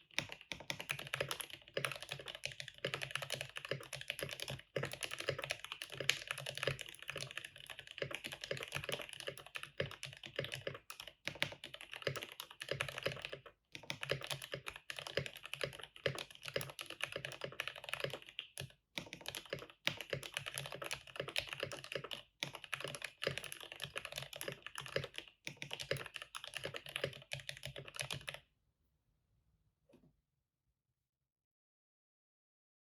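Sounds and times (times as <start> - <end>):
mechanical keyboard typing: 0.0 - 28.4.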